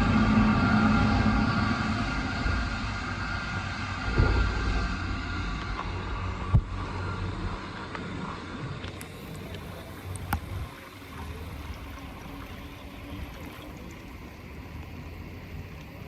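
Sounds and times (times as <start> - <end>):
pool water gurgling and lapping: 0.0 - 16.0
wind rumble on microphone: 0.0 - 16.0.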